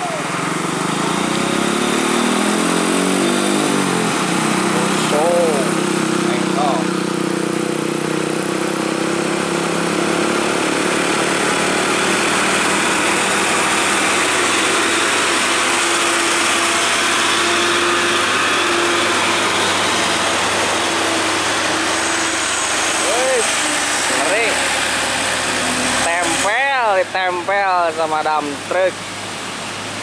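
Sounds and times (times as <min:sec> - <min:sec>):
truck diesel engine pulling hard: 0:00.0 - 0:30.0.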